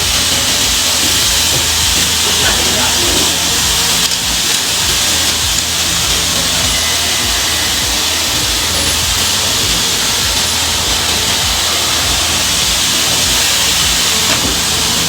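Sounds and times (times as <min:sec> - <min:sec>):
mitre saw running: 0:00.0 - 0:15.0
uneven low throb: 0:00.0 - 0:15.0.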